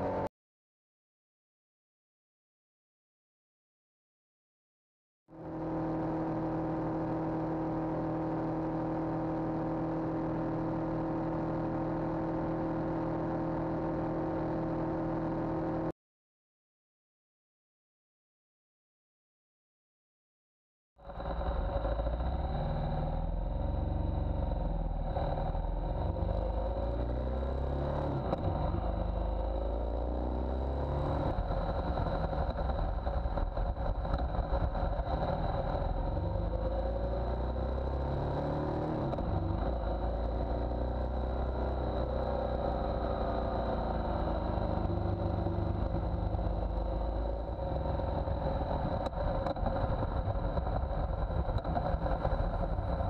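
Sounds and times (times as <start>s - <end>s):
motorcycle engine cruising: 0.0s - 0.3s, 5.3s - 15.9s, 21.1s - 53.0s.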